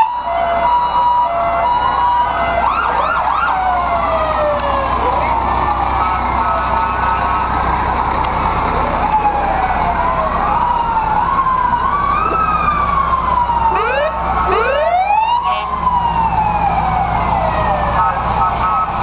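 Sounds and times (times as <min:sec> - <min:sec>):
siren whoops: 0:00.0 - 0:07.9, 0:08.6 - 0:19.0
fire truck sirens wailing: 0:00.0 - 0:19.0.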